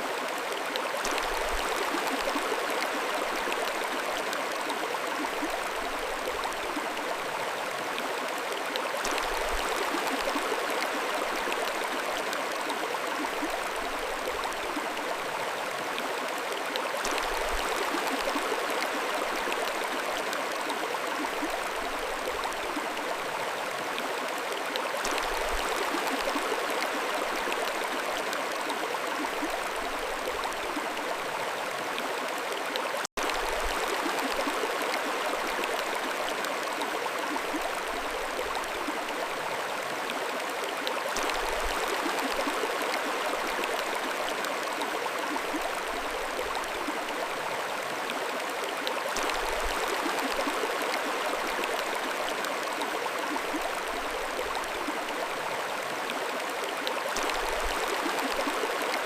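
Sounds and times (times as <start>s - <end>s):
mountain stream gurgling: 0.0s - 59.0s.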